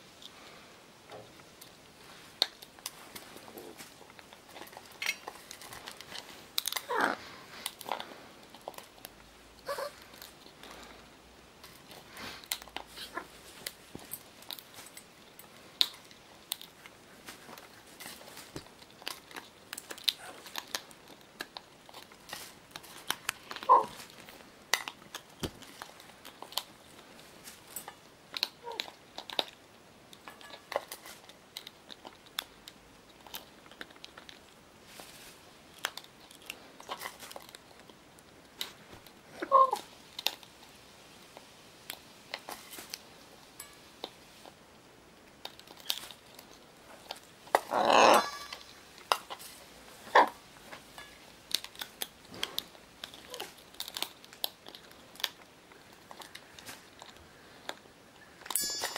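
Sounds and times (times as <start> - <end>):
parrot cracking seeds: 1.5 - 58.9.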